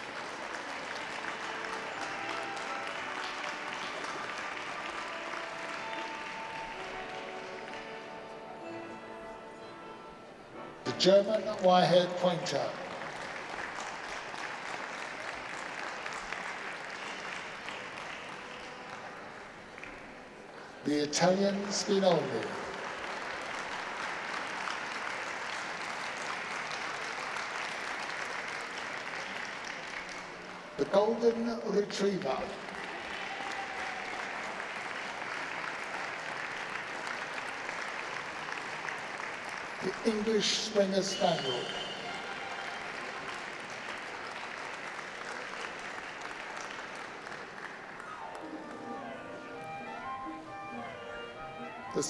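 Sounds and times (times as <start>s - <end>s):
audience applauding: 0.0s - 8.3s, 11.1s - 52.0s
faint music: 0.0s - 52.0s.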